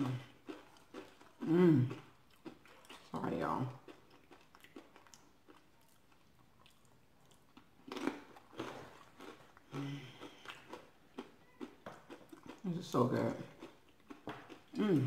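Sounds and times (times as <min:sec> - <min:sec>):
crunchy chewing: 0:00.1 - 0:15.0.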